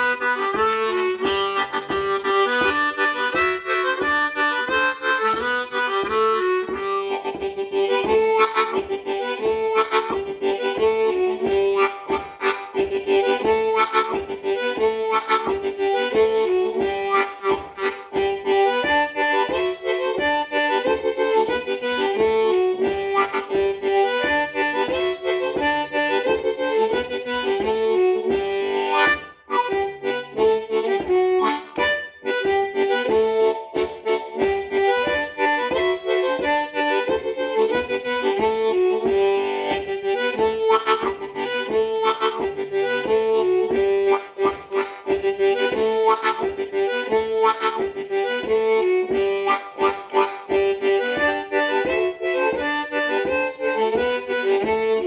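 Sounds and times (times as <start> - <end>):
harmonica playing a melody: 0.0 - 55.0.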